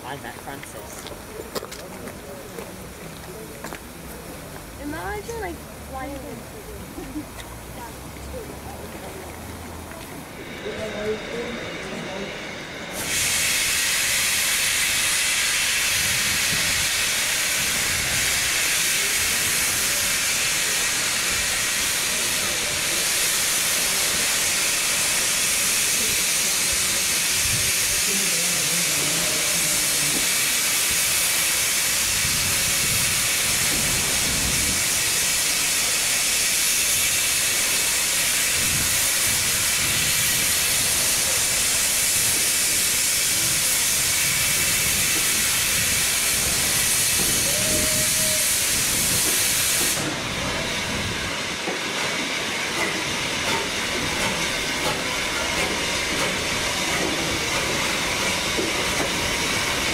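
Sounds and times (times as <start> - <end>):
steam hissing loudly: 0.0 - 59.9
train rumbling slowly: 0.0 - 59.9.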